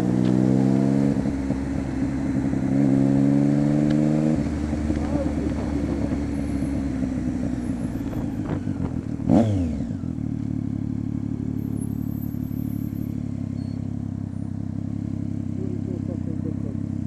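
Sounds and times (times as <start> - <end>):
motorcycle engine idling: 1.2 - 17.0.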